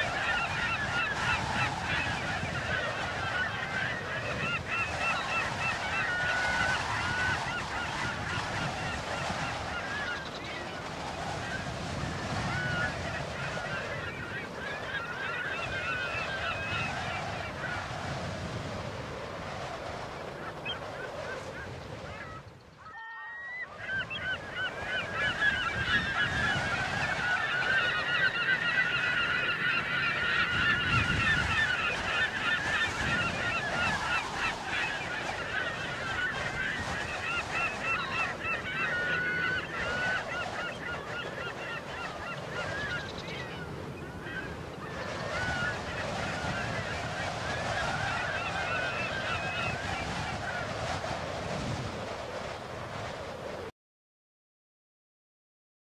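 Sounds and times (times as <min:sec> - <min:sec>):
flock of flamingos calling: 0:00.0 - 0:51.8.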